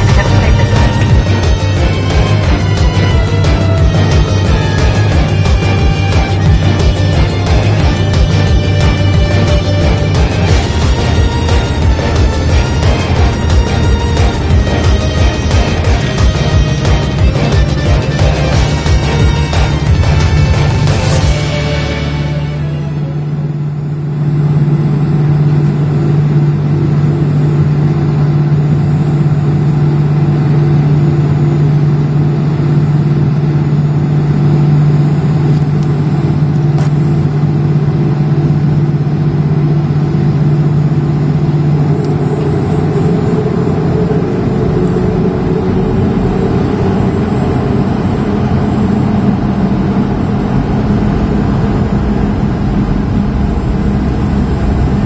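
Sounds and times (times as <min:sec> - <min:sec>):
aircraft cabin engine hum: 0:00.0 - 0:55.0.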